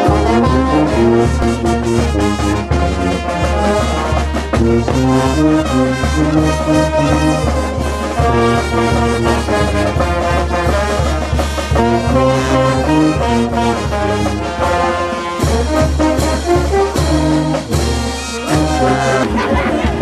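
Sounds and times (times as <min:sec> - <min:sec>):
brass band playing: 0:00.0 - 0:20.0.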